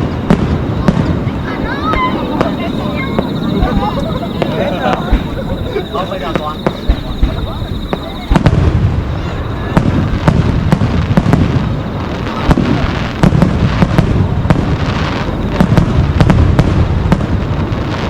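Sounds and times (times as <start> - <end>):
firework crackle: 0.0 - 18.0
firework cracks: 0.0 - 18.0
low firework booms: 0.0 - 18.0.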